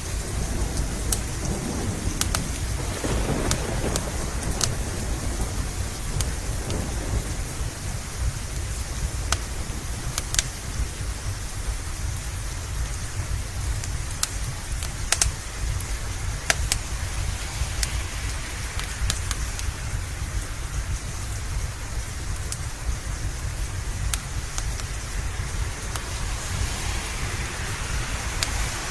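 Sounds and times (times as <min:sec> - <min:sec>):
wood fire crackling pops: 0:00.0 - 0:26.6
steady rain: 0:00.0 - 0:28.9.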